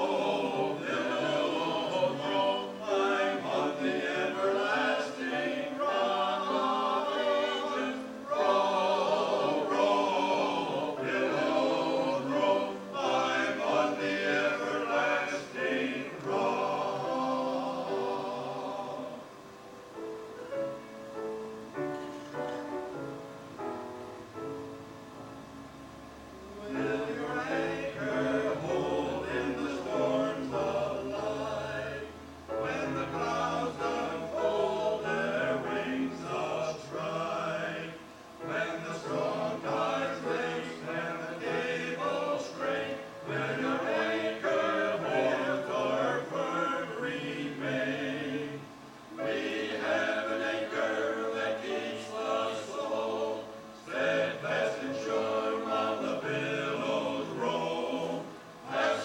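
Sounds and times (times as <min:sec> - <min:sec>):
choir singing: 0:00.0 - 0:19.6, 0:26.4 - 0:59.0.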